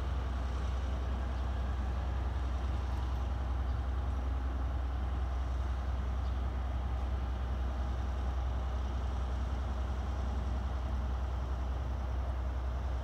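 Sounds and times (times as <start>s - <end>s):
electric train equipment hum: 0.0s - 13.0s.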